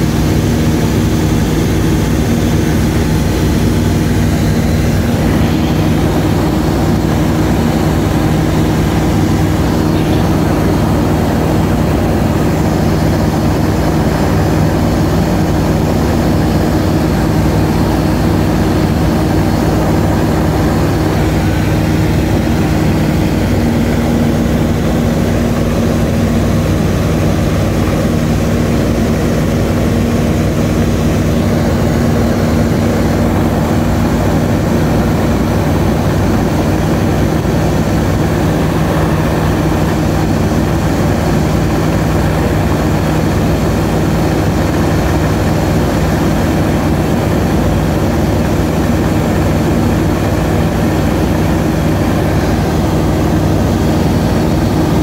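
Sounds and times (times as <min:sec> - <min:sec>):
aircraft engine droning: 0:00.0 - 0:55.0.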